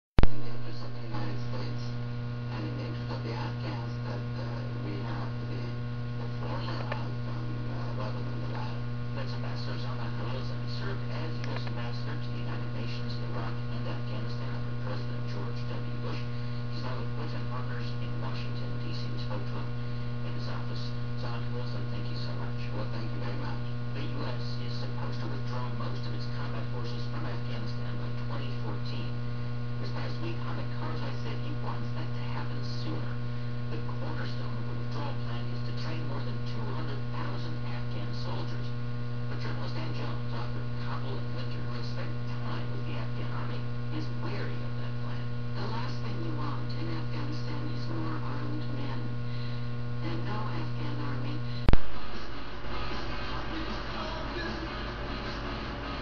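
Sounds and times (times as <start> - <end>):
electrical hum: 0.2 - 56.0.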